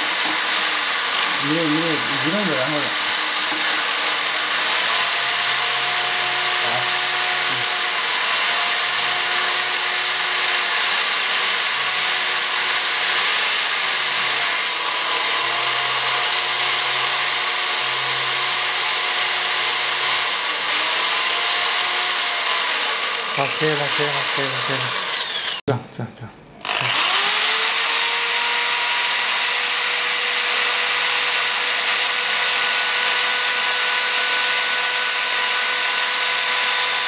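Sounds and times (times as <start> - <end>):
electric drill grinding into glass: 0.0 - 25.6, 26.6 - 37.0.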